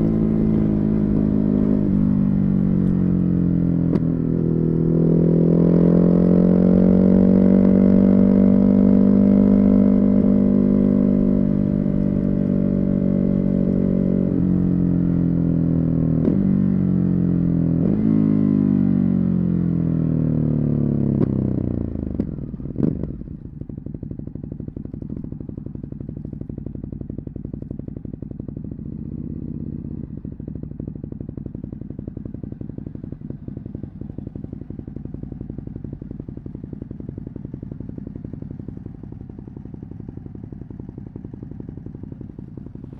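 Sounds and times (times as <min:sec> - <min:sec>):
motorcycle engine revving and idling: 0:00.0 - 0:42.9.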